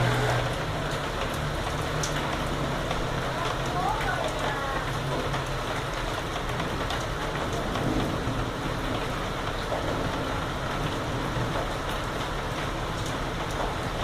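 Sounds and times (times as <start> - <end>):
heavy rain hissing: 0.0 - 14.0
raindrop ticks: 0.3 - 14.0.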